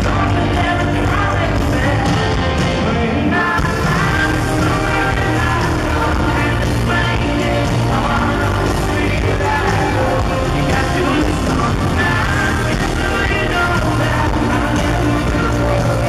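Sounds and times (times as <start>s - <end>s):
drums: 0.0s - 16.0s
electric guitar: 0.0s - 16.0s
male lead vocal singing: 0.0s - 16.0s.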